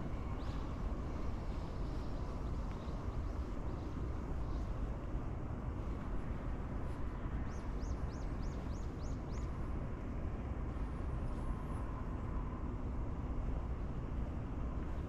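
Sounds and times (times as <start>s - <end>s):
low rumble of outdoor background: 0.0s - 15.0s.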